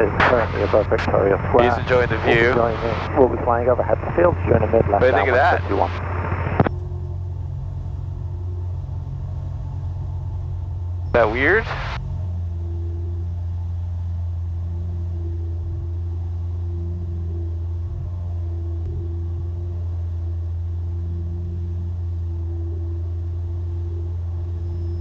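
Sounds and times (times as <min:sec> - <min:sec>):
aircraft engine cabin drone: 0:00.0 - 0:25.0
faint higher steady tone: 0:00.0 - 0:25.0.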